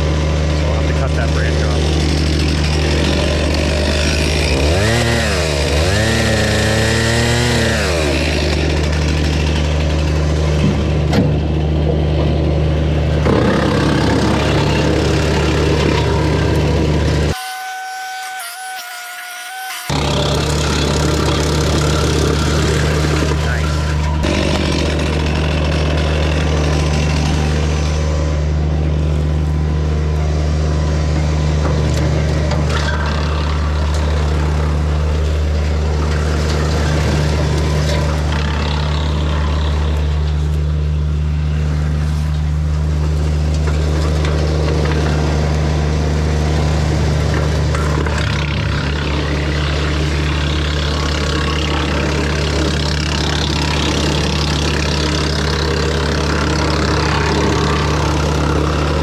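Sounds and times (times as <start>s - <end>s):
tractor diesel engine running: 0.0s - 17.4s, 19.9s - 59.0s.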